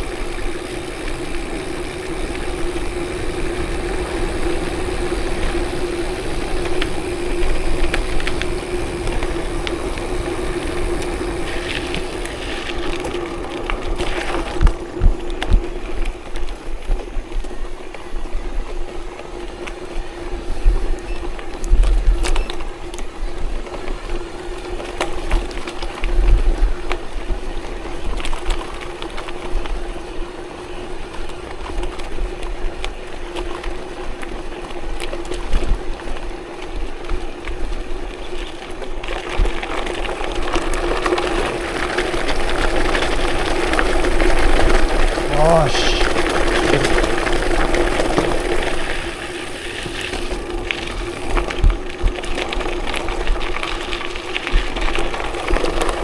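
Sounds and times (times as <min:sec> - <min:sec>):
vehicle engine humming: 0:00.0 - 0:56.0.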